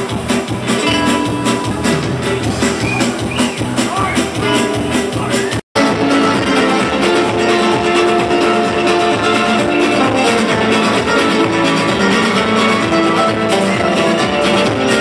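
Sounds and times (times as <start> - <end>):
keyboard: 0.0 - 15.0
strummed acoustic guitars: 0.0 - 15.0.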